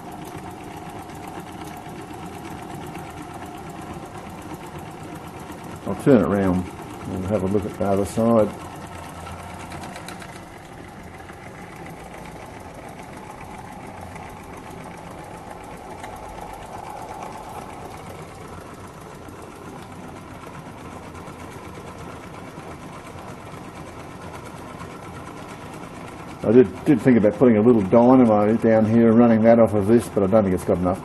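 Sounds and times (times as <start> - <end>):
steam engine mechanical clatter: 0.0 - 31.0.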